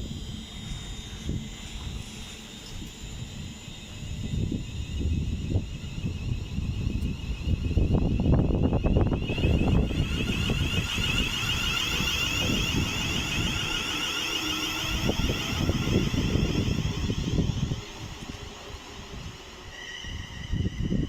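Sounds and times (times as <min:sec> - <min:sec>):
train rumble: 0:00.0 - 0:21.0
train whine: 0:00.0 - 0:21.0.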